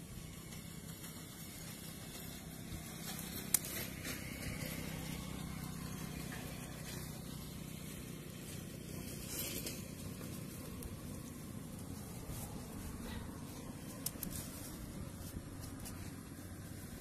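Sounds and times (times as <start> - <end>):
leafy stems rustling: 0.0 - 17.0
low background hum: 0.0 - 17.0.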